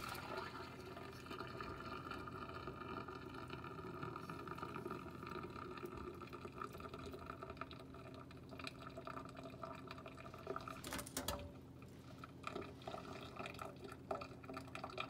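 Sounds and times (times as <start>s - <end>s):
water draining through strainer: 0.0s - 15.0s.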